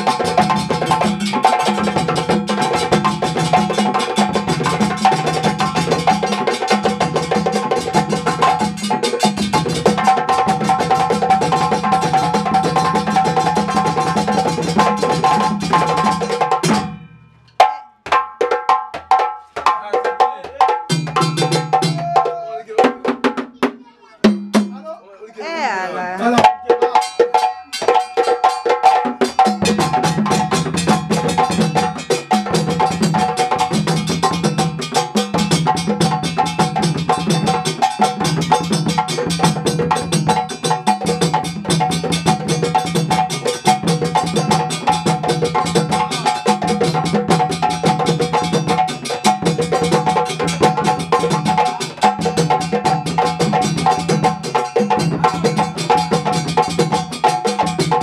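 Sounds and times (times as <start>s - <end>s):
djembes played by hand: 0.0s - 58.0s.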